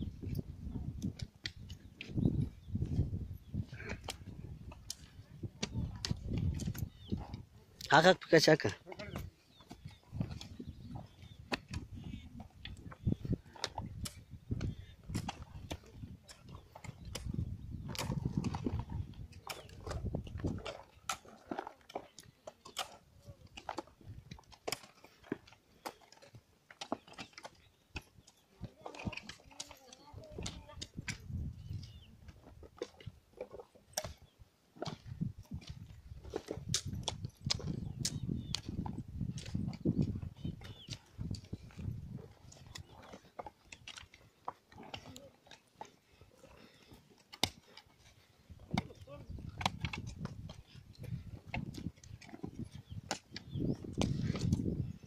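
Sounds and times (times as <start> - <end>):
hoes scraping stony soil: 0.0 - 55.0.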